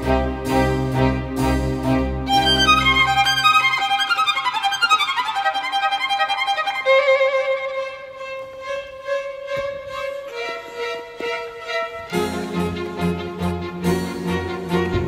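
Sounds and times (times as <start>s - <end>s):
violin music: 0.0s - 15.0s.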